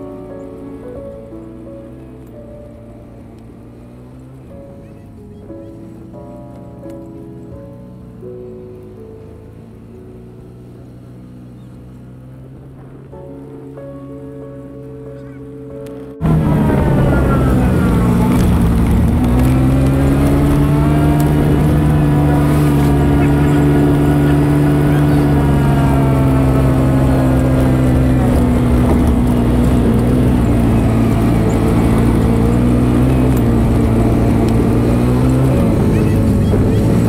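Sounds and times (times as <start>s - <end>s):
quad bike engine running: 0.0s - 13.5s, 14.8s - 37.0s.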